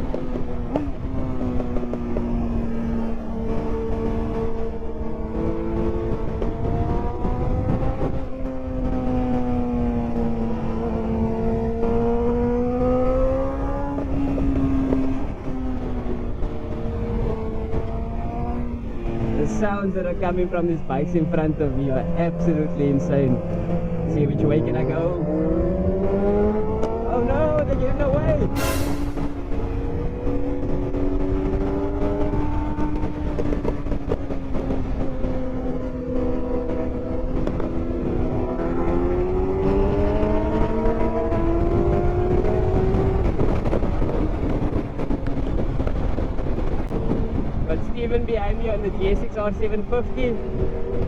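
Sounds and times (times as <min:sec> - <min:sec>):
motorcycle engine at high revs: 0:00.0 - 0:19.8, 0:20.8 - 0:47.6, 0:49.0 - 0:51.0
wind buffeting: 0:00.0 - 0:51.0.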